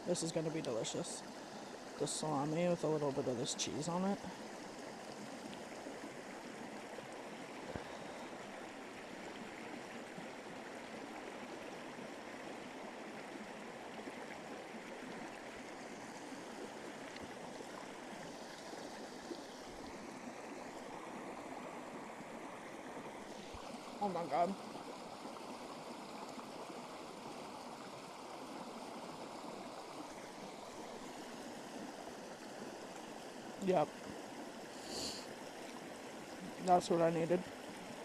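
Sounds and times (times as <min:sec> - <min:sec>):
flowing water rushing: 0:00.0 - 0:38.0.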